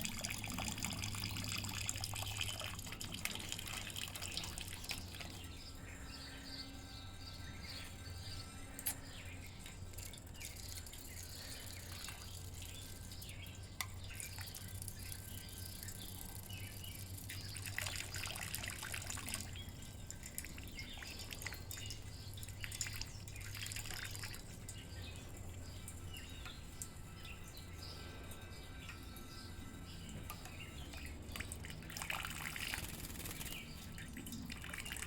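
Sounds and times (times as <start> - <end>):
low hum: 0.0 - 34.7
birds chirping: 0.0 - 35.0
water dripping and trickling: 0.0 - 35.0.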